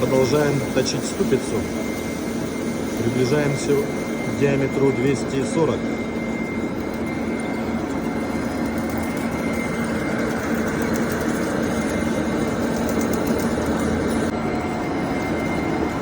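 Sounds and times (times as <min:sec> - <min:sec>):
metal lathe cutting metal: 0:00.0 - 0:16.0
thin high whine: 0:00.0 - 0:16.0.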